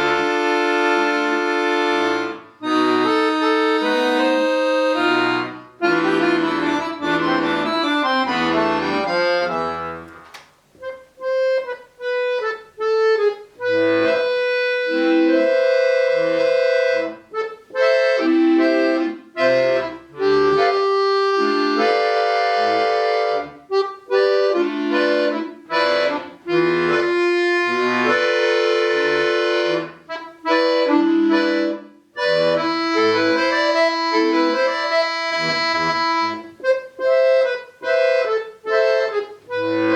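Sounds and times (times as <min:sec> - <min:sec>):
solo accordion music: 0:00.0 - 0:39.9.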